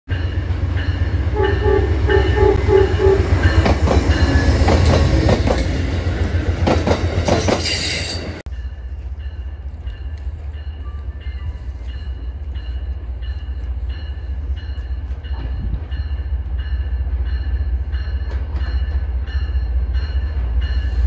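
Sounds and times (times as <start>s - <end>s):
diesel train rumble: 0.1s - 21.0s
distant train rumble: 0.1s - 21.0s.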